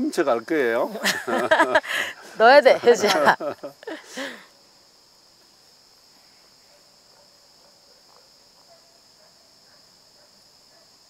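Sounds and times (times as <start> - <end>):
faint insect chirring: 0.0 - 11.0.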